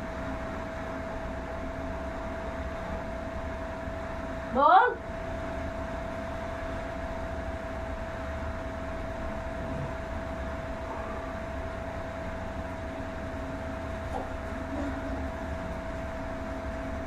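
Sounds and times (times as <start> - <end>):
room hum and hiss: 0.0 - 17.0.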